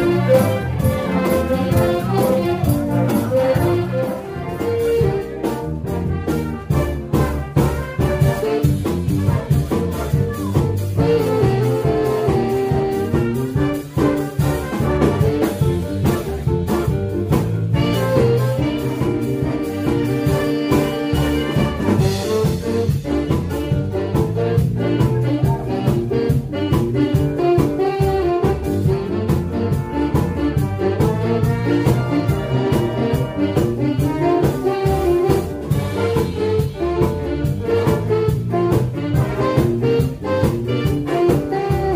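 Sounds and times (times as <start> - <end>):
big band playing jazz: 0.0 - 41.9.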